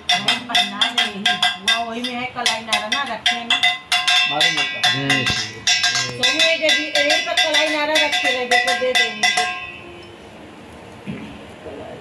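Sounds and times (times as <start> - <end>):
metal hand bell ringing rapidly: 0.0 - 9.8.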